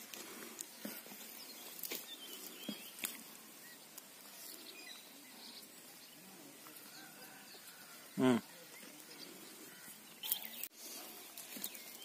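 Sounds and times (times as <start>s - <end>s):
faint bird chirps: 0.7s - 12.0s.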